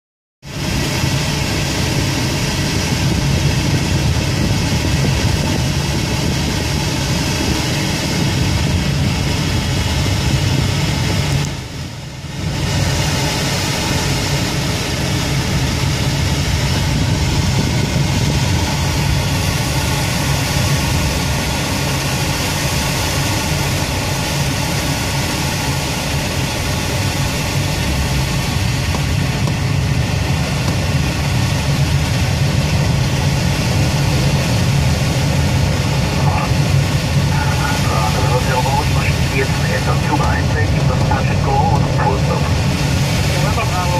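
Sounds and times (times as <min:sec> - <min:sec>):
air rushing past glider canopy: 0:00.4 - 0:43.9.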